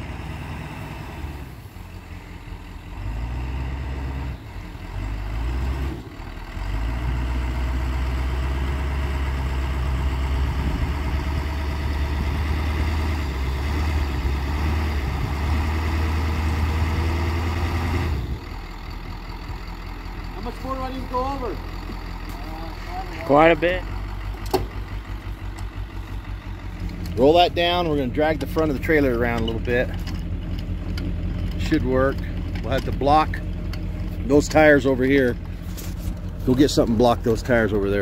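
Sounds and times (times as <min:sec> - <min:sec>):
pickup truck engine revving: 0:00.0 - 0:38.0.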